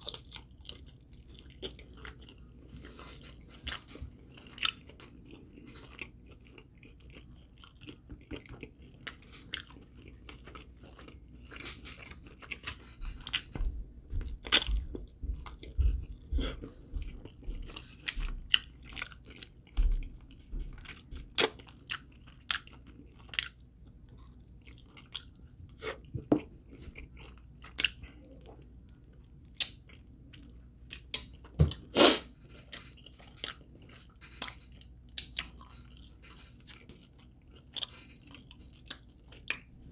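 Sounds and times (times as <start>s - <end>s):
crunchy chewing: 0.0s - 13.6s, 14.2s - 39.8s.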